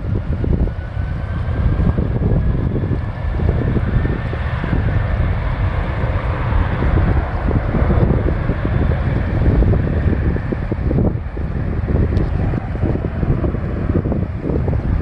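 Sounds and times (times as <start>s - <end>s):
high engine whine: 0.0s - 15.0s
jet engines roaring: 0.0s - 15.0s
wind buffeting microphone: 0.0s - 15.0s.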